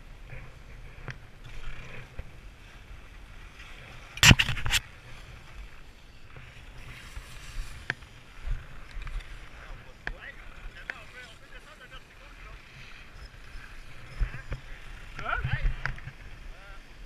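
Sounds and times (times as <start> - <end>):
skis scraping over snow: 0.1 - 17.0.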